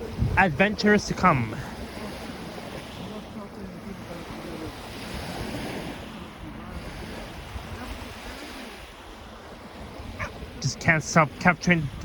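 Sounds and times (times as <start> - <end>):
wind rumbling on microphone: 0.0 - 10.7, 11.3 - 12.0
lake waves washing onto shore: 0.0 - 12.0.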